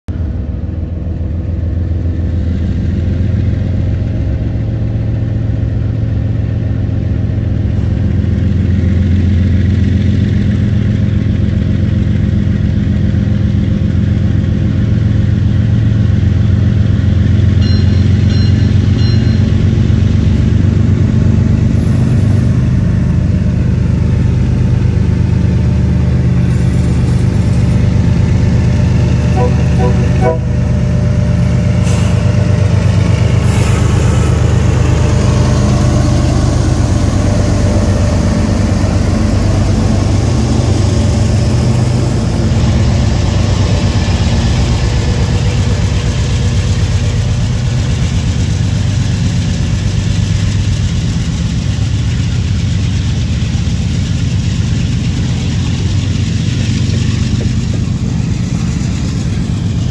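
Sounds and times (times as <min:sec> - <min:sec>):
diesel locomotive engines: 0:00.1 - 0:59.9.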